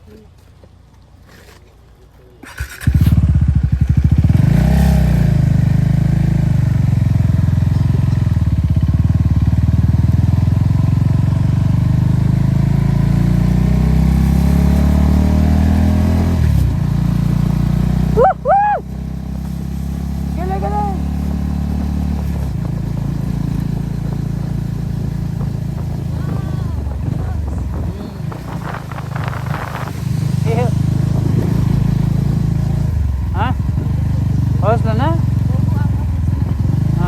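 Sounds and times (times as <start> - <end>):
motorcycle engine running: 2.4 - 37.0.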